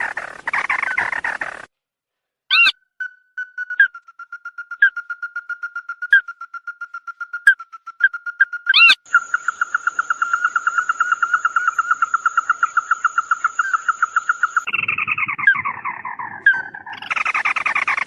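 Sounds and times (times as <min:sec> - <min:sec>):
bird calling rapid repeated notes: 0:00.0 - 0:01.7, 0:02.5 - 0:18.0.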